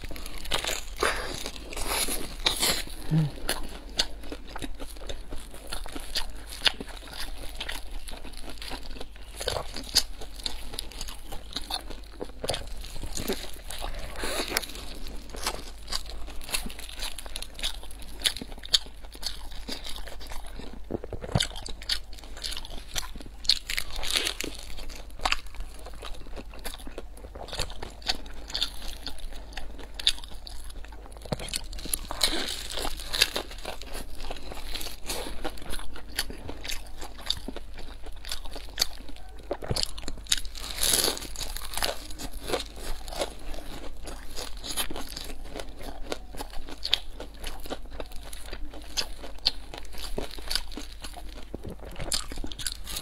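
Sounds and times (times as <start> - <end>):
chewing: 0.0 - 53.0
crunchy bites into crust: 0.0 - 53.0.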